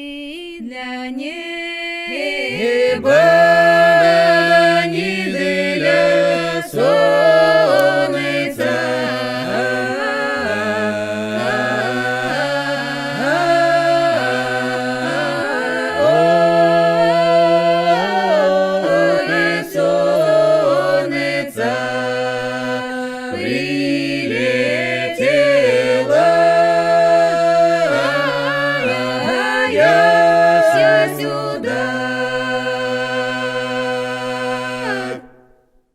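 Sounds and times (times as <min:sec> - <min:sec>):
voices singing in harmony: 0:00.0 - 0:35.6.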